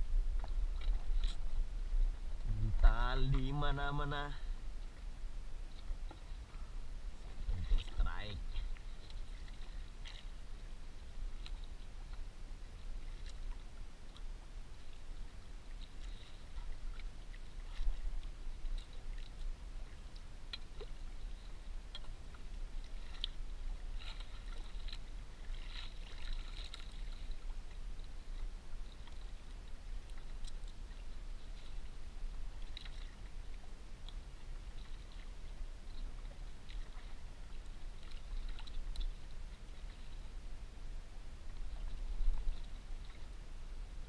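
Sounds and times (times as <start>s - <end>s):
wind and sea rumble: 0.0s - 44.0s.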